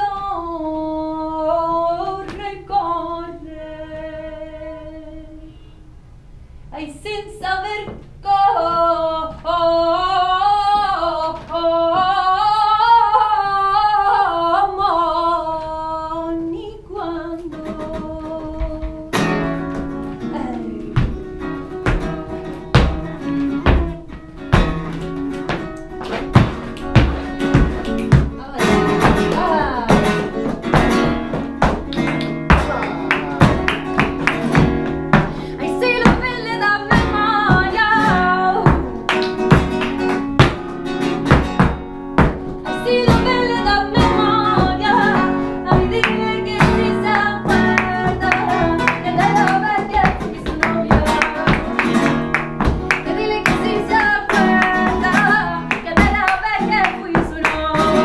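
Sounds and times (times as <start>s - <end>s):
flamenco guitar strumming: 7.6s - 58.0s.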